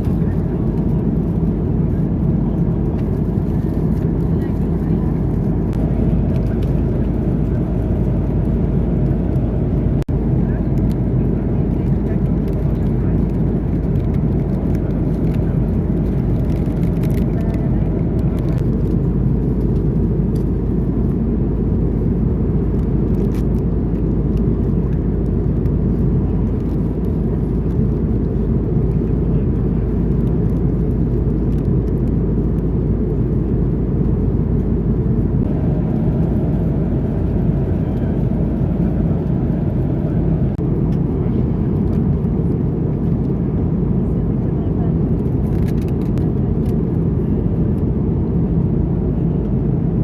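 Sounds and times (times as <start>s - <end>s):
vehicle interior rumble: 0.0s - 50.0s.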